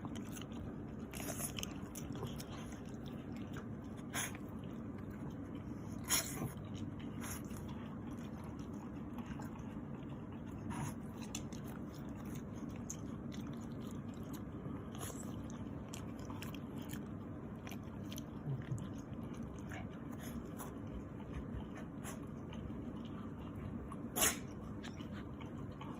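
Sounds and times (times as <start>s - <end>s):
dog chewing and licking: 0.0s - 25.9s
steady low hum: 0.0s - 25.9s.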